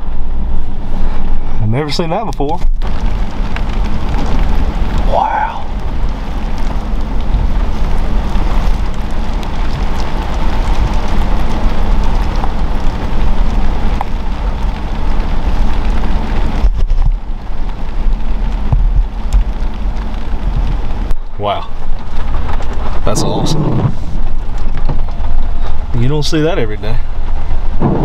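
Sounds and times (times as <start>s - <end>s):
wind and rain rushing: 0.0s - 28.0s
wind buffeting microphone: 2.6s - 26.1s.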